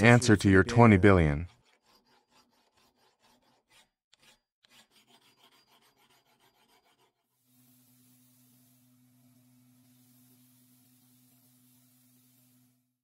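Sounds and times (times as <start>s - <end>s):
hand file scraping steel: 0.0s - 12.8s.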